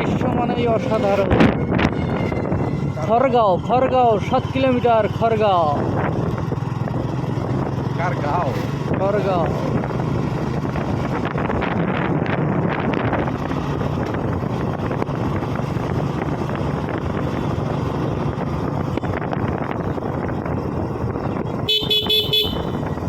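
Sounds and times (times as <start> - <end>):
wind buffeting microphone: 0.0 - 4.4, 5.6 - 23.0
vehicle engine drone: 0.0 - 23.0.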